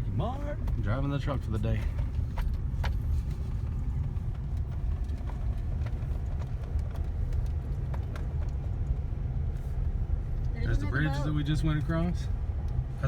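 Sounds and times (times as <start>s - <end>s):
truck road rumble: 0.0s - 13.0s.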